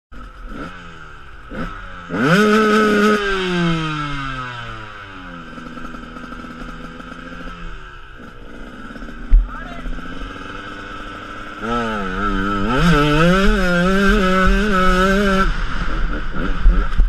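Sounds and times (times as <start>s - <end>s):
dirt bike engine idling and revving: 0.1s - 17.0s.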